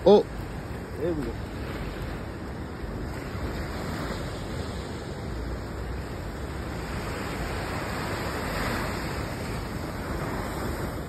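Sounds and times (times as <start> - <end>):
ocean surf washing on shore: 0.0 - 11.0
wind on microphone: 0.0 - 11.0.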